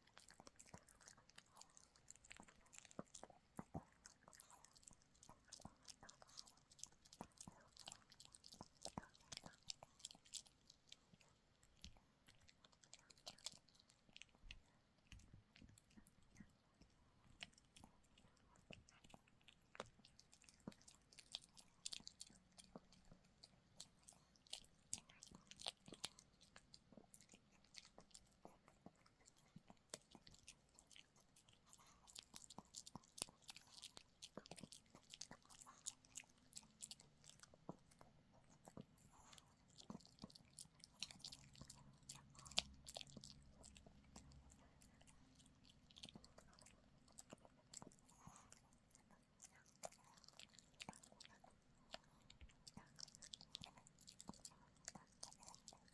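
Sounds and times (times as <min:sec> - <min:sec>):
dog crunching a chew treat: 0:00.0 - 0:55.9.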